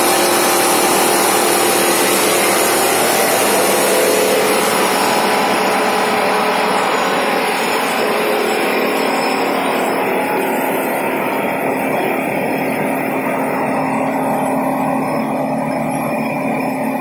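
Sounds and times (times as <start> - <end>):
carding machine running with hum: 0.0 - 17.0.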